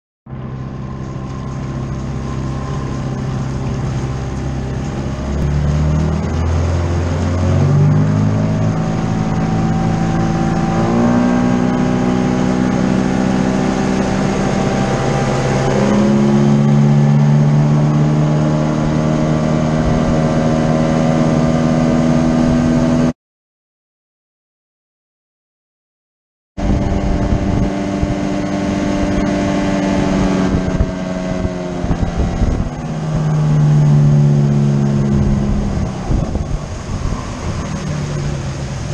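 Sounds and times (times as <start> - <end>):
outboard motor accelerating: 0.3 - 23.2, 26.6 - 38.9.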